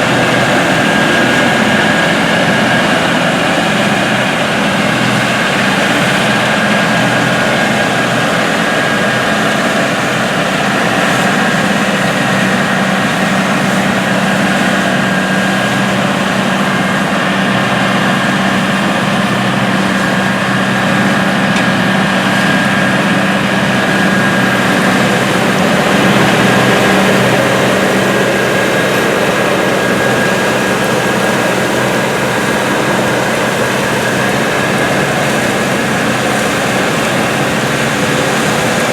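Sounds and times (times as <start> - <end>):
combine harvester diesel engine: 0.0 - 38.9
threshing machinery: 0.0 - 38.9.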